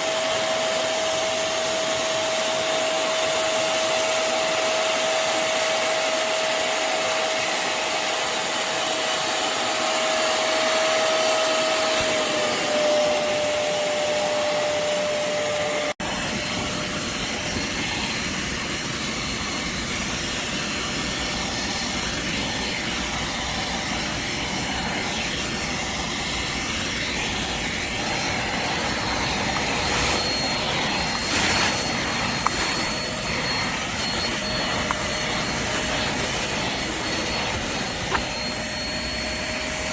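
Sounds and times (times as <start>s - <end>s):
spot cleaner motor whining: 0.0s - 39.9s.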